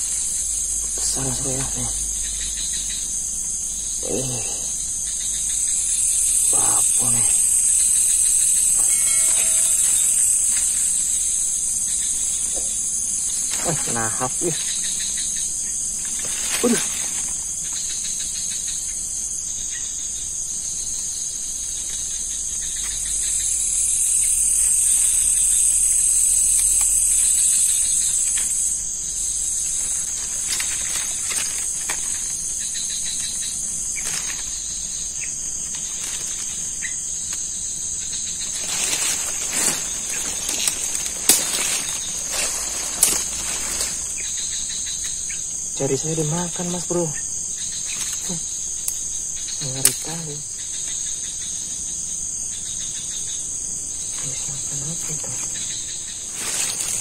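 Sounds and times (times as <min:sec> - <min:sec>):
crickets and insects chirping: 0:00.0 - 0:57.0.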